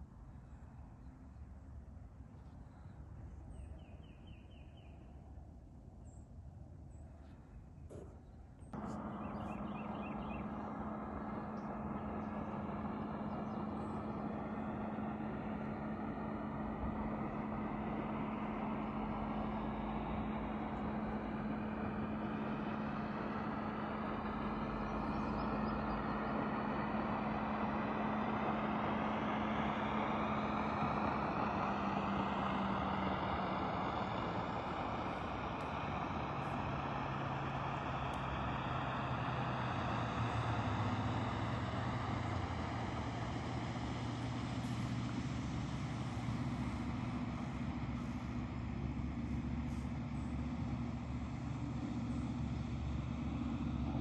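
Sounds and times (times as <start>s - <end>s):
engine running at low speed: 0.0s - 54.0s.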